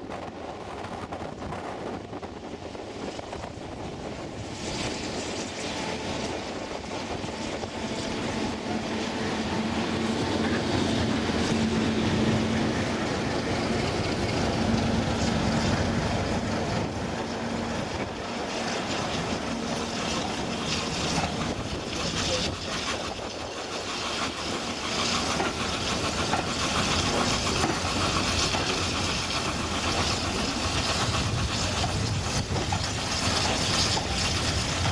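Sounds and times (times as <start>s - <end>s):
diesel locomotive engine hum: 0.0s - 34.9s
train wheels rumbling on rails: 0.0s - 34.9s.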